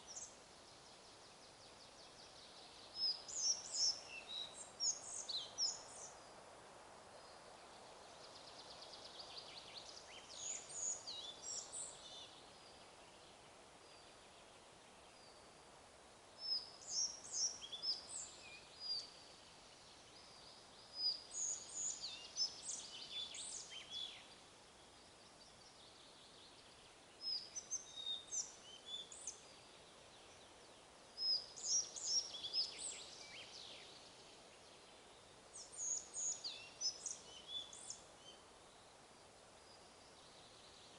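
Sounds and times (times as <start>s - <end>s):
faint wind hiss: 0.0s - 40.9s
songbird chirping: 0.0s - 40.9s.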